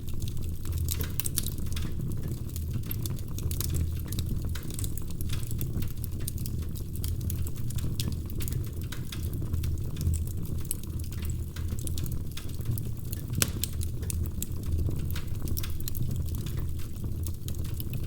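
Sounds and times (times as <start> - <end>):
fire crackling pops: 0.0 - 18.0
low rumble of flames: 0.0 - 18.0.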